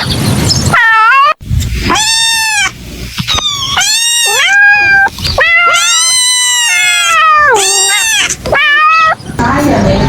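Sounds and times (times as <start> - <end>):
kitten meowing: 0.7 - 9.2.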